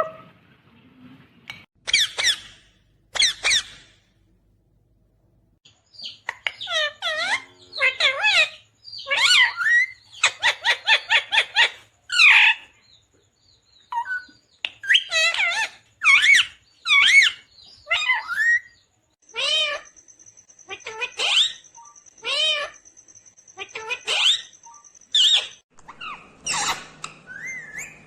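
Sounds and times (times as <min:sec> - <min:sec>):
parakeet calling and chattering: 0:01.8 - 0:04.0, 0:05.8 - 0:28.0.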